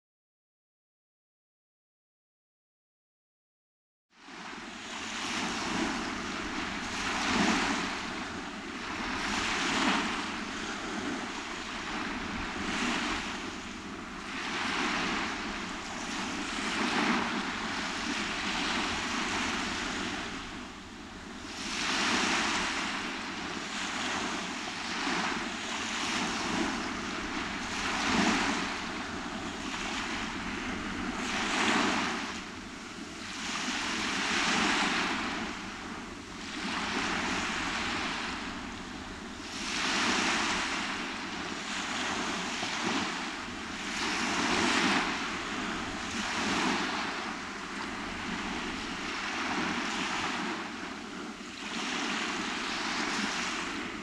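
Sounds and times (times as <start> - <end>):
small waves breaking on sand: 4.2 - 54.0.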